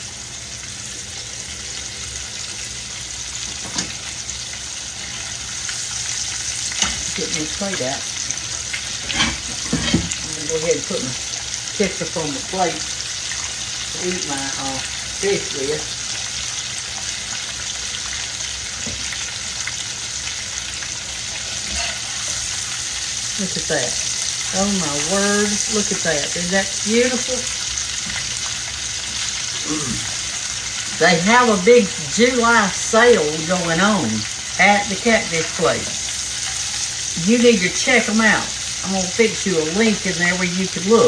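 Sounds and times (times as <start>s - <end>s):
fish frying in hot grease: 0.0s - 41.0s.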